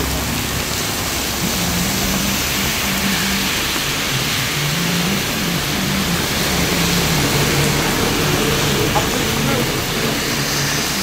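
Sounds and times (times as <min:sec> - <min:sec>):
rain hissing: 0:00.0 - 0:11.0
tyres on wet road: 0:00.0 - 0:11.0
vehicle engine humming: 0:00.0 - 0:11.0.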